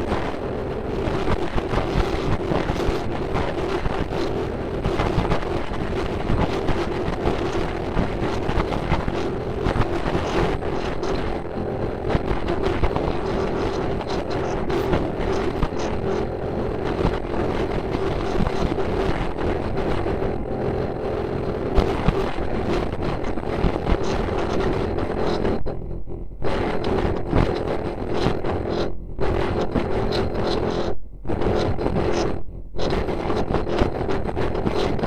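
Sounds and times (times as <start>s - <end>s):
loud droning hum: 0.0s - 35.0s.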